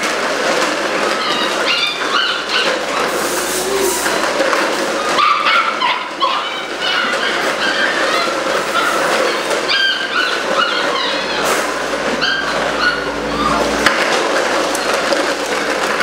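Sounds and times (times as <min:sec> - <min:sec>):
puppies yipping and barking: 0:00.5 - 0:16.0.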